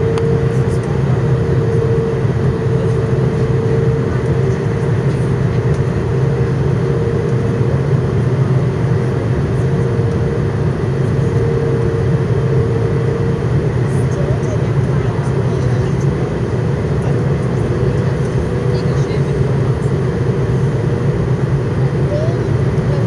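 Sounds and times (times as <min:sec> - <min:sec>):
aircraft cabin engine drone: 0:00.0 - 0:23.0
mid-pitched hum: 0:00.0 - 0:23.0.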